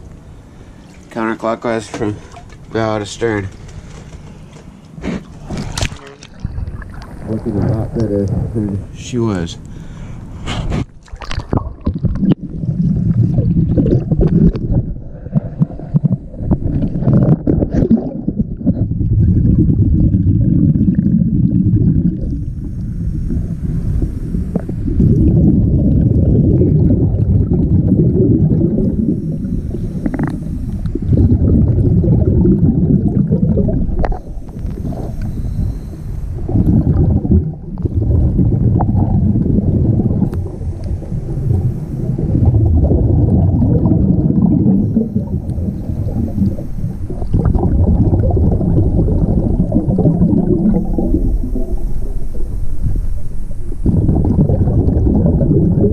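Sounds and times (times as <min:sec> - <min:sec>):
underwater regulator bubbles gurgling: 0:05.5 - 0:08.9, 0:10.7 - 0:55.9.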